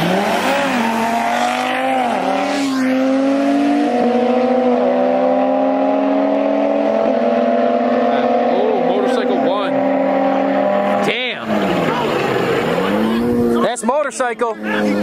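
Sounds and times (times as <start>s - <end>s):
car accelerating hard: 0.0s - 13.8s
motorcycle accelerating hard: 0.0s - 13.8s.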